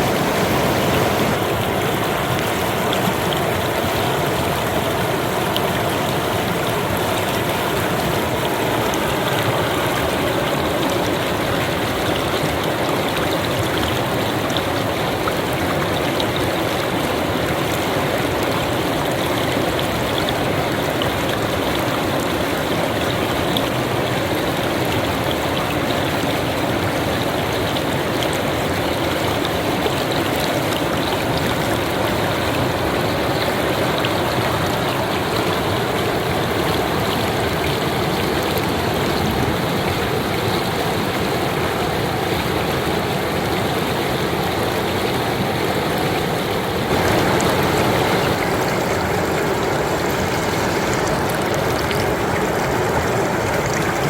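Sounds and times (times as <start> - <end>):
river water rushing over shallows: 0.0 - 54.0.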